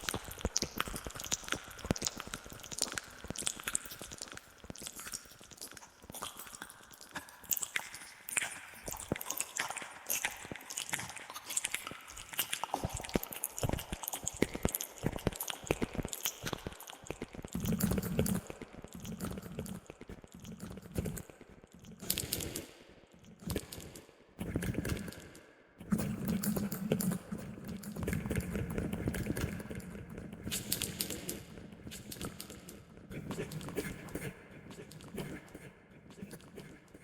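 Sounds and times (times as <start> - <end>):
wet mouth clicks and smacks: 0.0 - 37.0.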